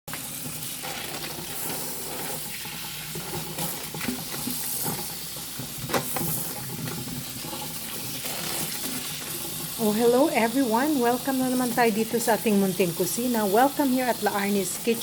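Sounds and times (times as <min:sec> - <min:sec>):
food sizzling in a frying pan: 0:00.1 - 0:15.0.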